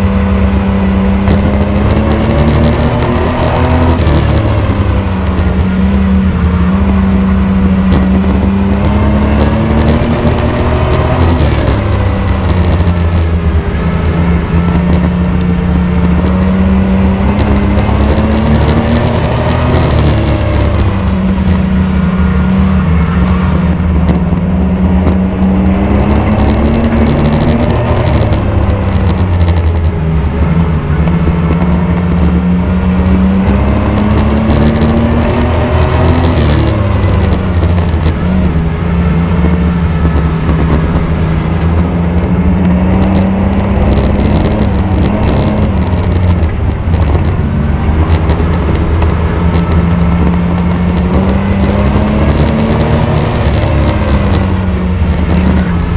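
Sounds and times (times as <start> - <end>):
race truck engine revving: 0.0 - 55.9.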